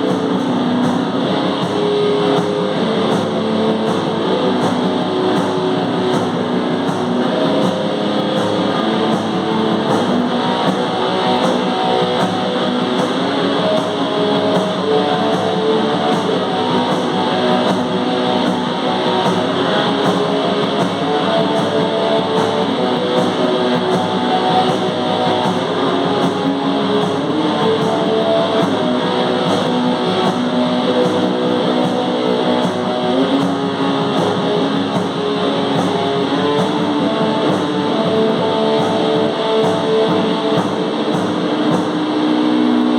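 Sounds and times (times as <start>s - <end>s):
distorted electric guitar riffs: 0.0s - 42.9s
drum strokes: 0.0s - 42.9s.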